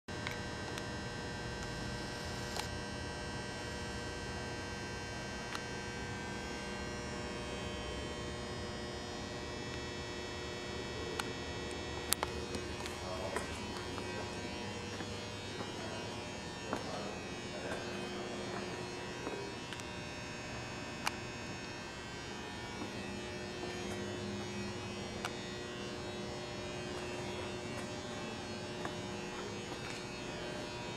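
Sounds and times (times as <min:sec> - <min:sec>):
electrical mains hum: 0:00.1 - 0:30.9.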